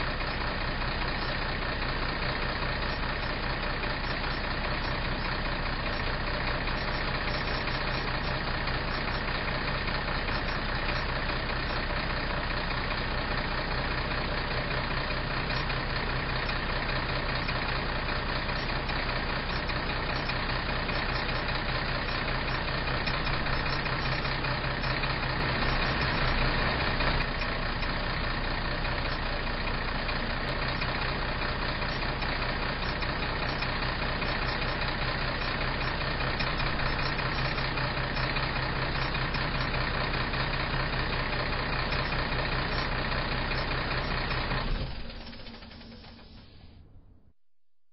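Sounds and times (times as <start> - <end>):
diesel truck engine idling: 0.0 - 47.3.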